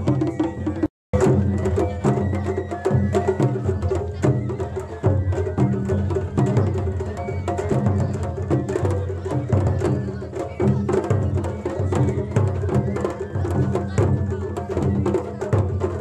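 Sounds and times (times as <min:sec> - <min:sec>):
festival percussion music: 0:00.0 - 0:16.0.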